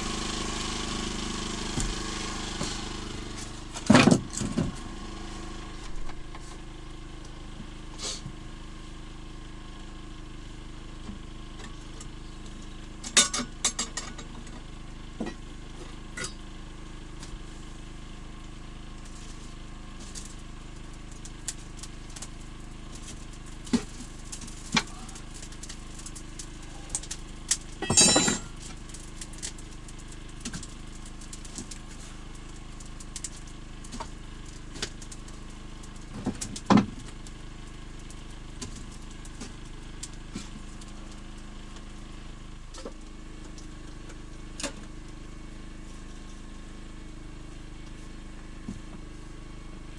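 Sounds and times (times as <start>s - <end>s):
engine-like hum: 0.0s - 49.9s.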